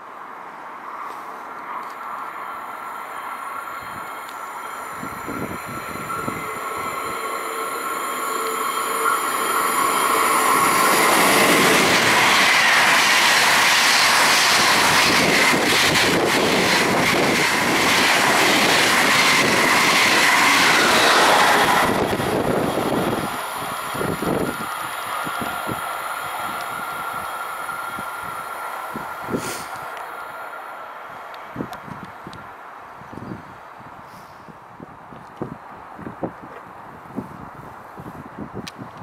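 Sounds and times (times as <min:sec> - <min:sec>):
fast train passing: 0:00.0 - 0:34.0.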